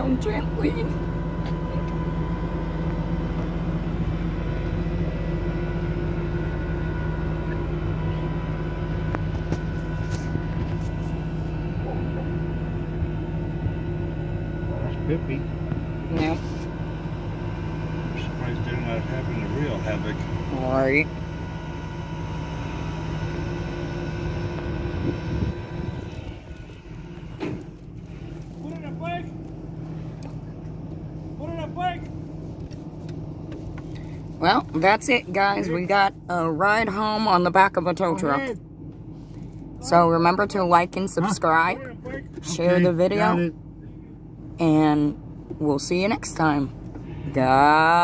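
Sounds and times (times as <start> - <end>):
truck hydraulics humming: 0.0 - 48.0.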